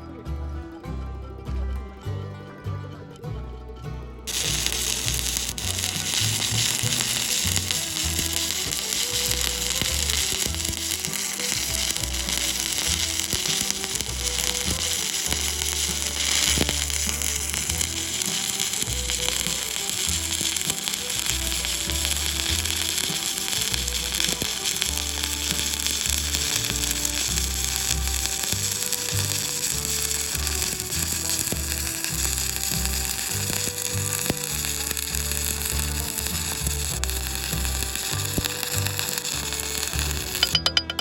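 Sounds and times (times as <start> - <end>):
welding arc crackling: 4.3 - 41.0.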